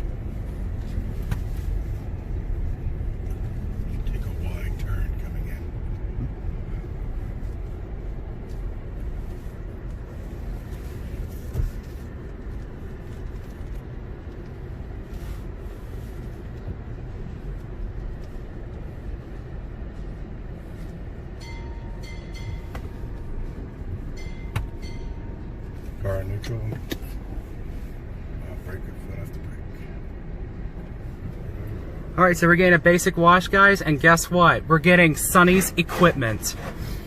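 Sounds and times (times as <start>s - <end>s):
car engine and tyres rumbling: 0.0s - 37.0s.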